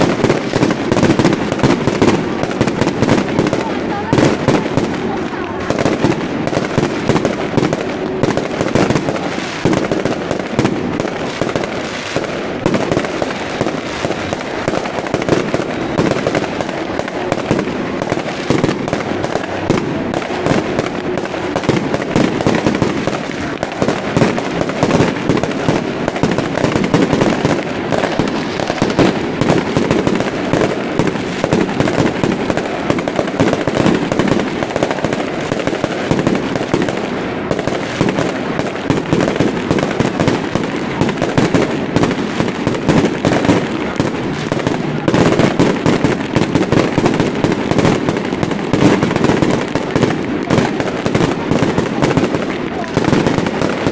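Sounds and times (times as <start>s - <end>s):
fireworks and firecrackers popping: 0.0s - 53.9s.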